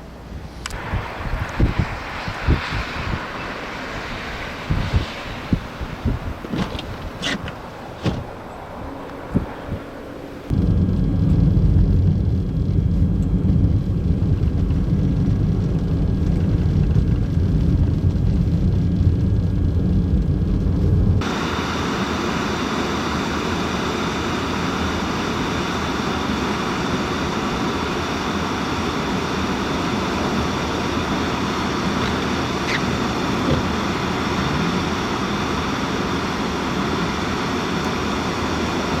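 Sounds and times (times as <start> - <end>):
road and wind hiss: 0.0 - 39.0
vehicle road and engine rumble: 0.0 - 39.0.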